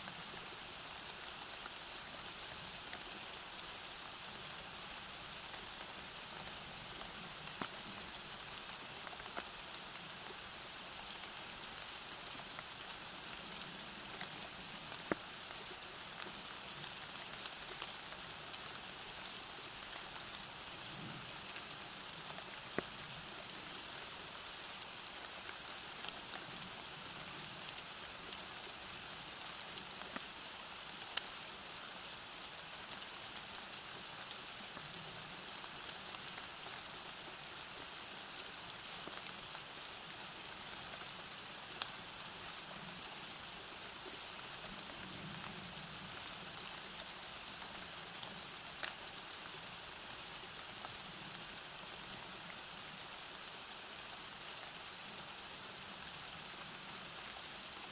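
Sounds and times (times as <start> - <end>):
raindrops ticking on a surface: 0.0 - 57.9
steady rain hiss: 0.0 - 57.9.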